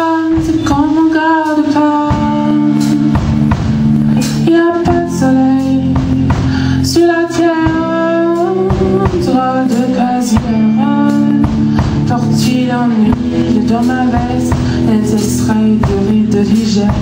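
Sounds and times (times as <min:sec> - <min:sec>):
guitar accompaniment: 0:00.0 - 0:17.0
person singing long sliding notes: 0:00.0 - 0:17.0.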